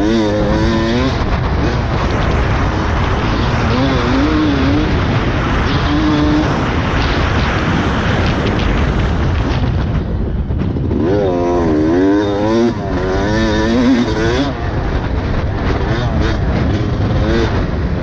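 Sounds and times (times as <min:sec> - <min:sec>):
dirt bike engine revving: 0:00.0 - 0:18.0
wind noise: 0:00.0 - 0:18.0.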